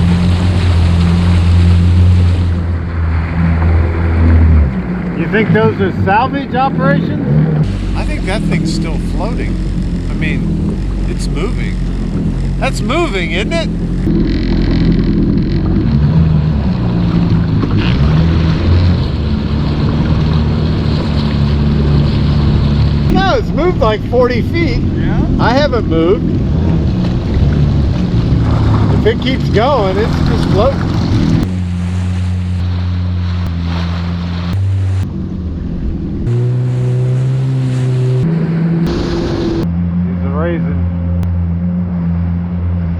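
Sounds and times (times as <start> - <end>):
water and wind noise: 0.0 - 42.9
watercraft engine running: 0.0 - 42.9.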